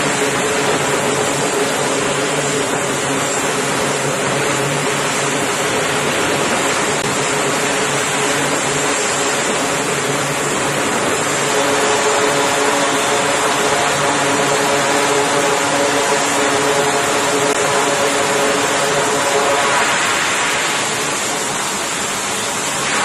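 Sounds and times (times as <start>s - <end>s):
turboprop engines running: 0.0s - 23.0s.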